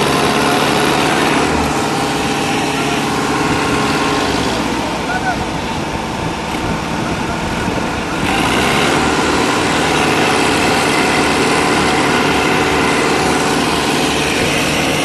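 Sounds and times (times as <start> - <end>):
diesel tractor engines running: 0.0 - 15.0.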